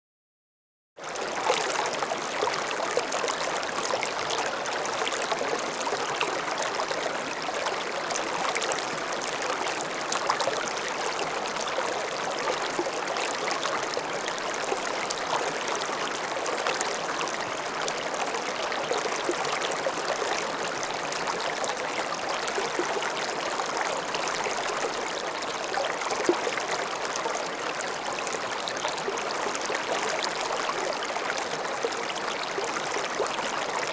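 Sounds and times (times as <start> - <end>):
stream babbling over stones: 1.1 - 33.9.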